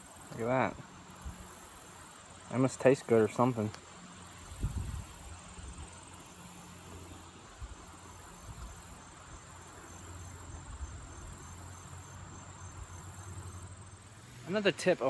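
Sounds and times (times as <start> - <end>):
insects buzzing high-pitched: 0.0 - 15.0.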